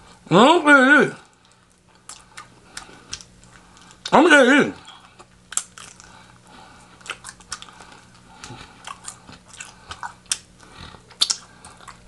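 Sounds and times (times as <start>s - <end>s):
crunchy chewing: 1.2s - 4.2s, 4.8s - 12.0s.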